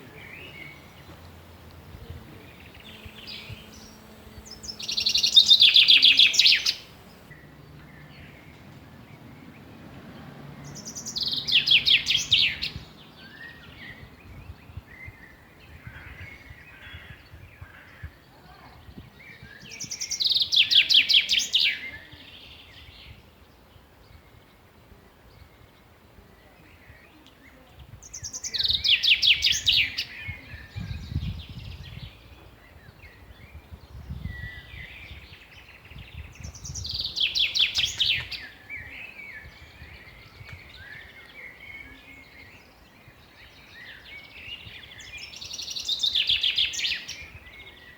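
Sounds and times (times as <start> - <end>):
quiet bird chirps: 0.0 - 47.9
songbird singing: 0.0 - 47.9.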